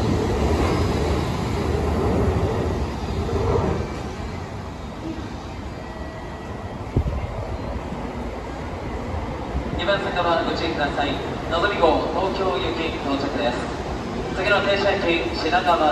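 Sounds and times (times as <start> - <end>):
train rolling past rumble: 0.0 - 15.9.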